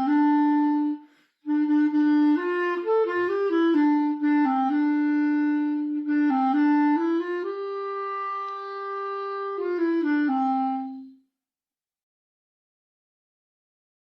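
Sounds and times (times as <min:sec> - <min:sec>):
solo instrument slow melody: 0:00.0 - 0:11.3.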